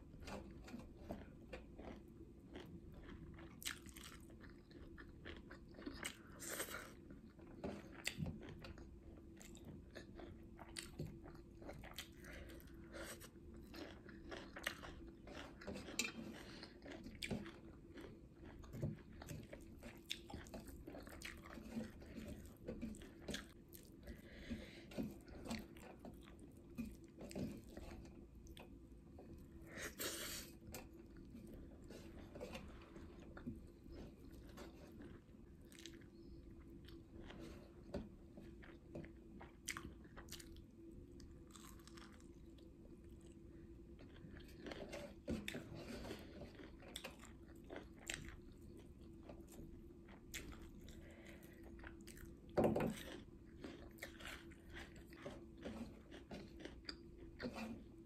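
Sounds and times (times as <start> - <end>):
faint steady hum: 0.0 - 58.0
chewing and biting food: 0.2 - 30.0, 30.6 - 37.9, 38.5 - 58.0.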